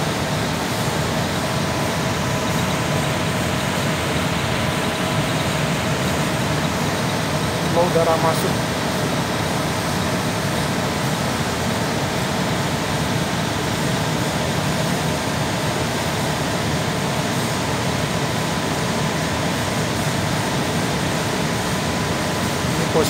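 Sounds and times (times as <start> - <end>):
air conditioner fan rushing air: 0.0 - 23.0.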